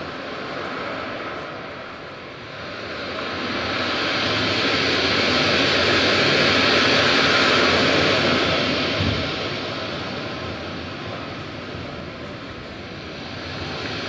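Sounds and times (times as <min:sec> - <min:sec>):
broad rushing noise: 0:00.0 - 0:14.0.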